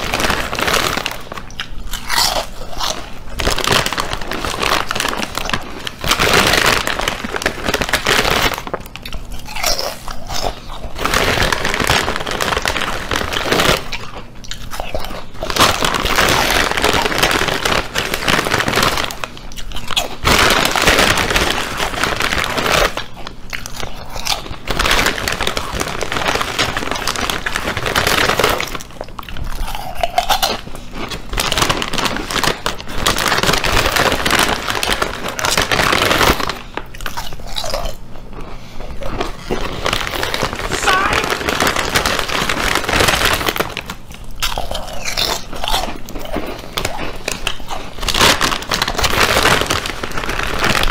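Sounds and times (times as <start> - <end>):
potato chips crunched and chewed: 0.0 - 50.9.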